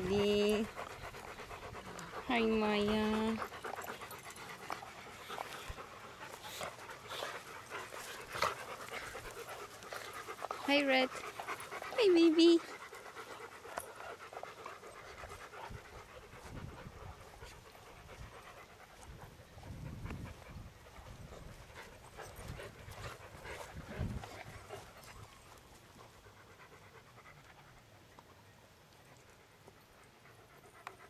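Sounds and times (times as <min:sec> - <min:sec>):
dog panting: 0:00.0 - 0:31.0.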